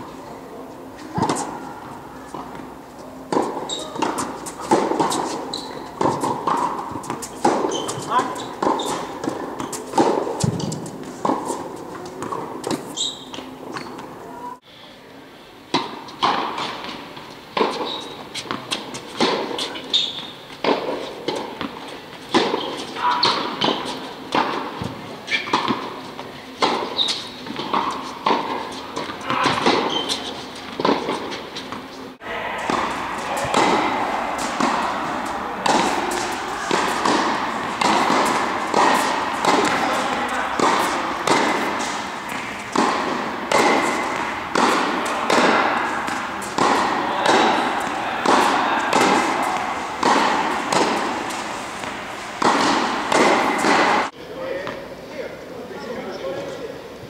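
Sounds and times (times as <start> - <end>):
tennis balls struck by rackets: 0.2 - 14.2, 15.7 - 54.8
tennis balls bouncing on court: 0.9 - 14.2, 15.7 - 54.8.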